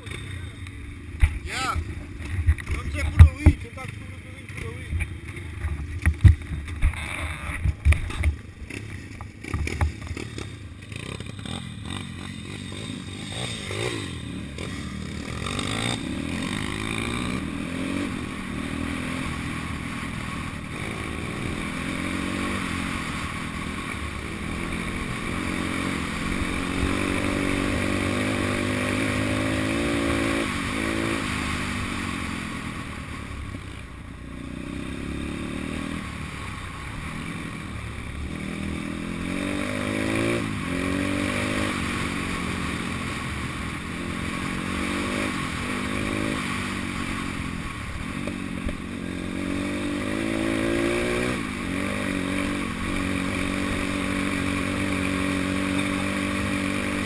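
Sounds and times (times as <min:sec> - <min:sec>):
small motorbike engine revving: 0:01.2 - 0:57.0.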